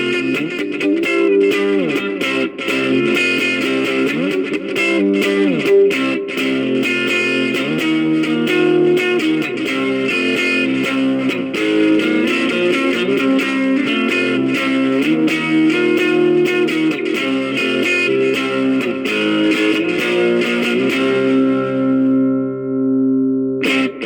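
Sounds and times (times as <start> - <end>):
electric guitar through amplifier: 0.0 - 24.0.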